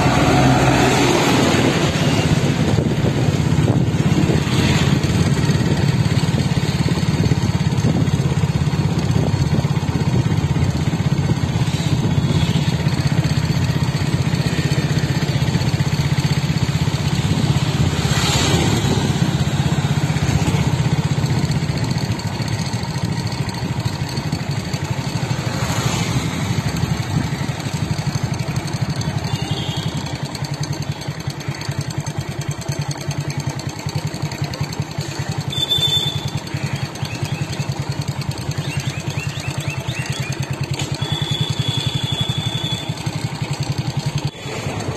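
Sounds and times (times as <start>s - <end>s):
vehicle engine droning: 0.0s - 44.9s.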